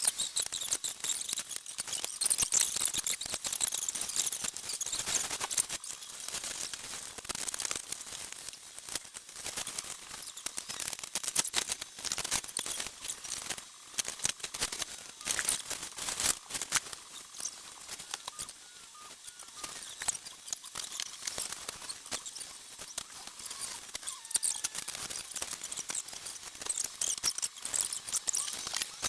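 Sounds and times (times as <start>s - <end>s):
rustling scratching and clicking: 0.0s - 29.0s.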